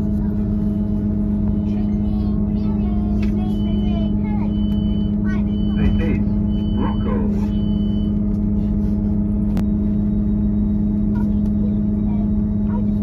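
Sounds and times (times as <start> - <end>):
diesel train drone inside carriage: 0.0 - 13.0.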